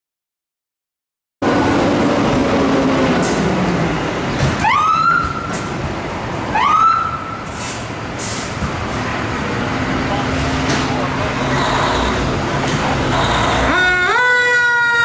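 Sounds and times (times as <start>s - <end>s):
vehicle engine rumble: 1.4s - 15.0s.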